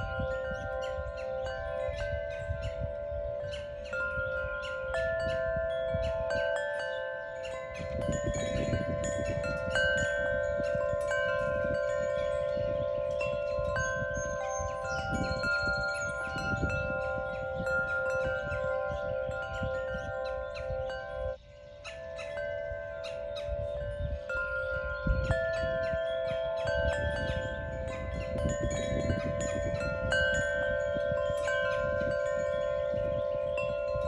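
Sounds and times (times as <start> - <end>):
wind chimes ringing: 0.0 - 34.0.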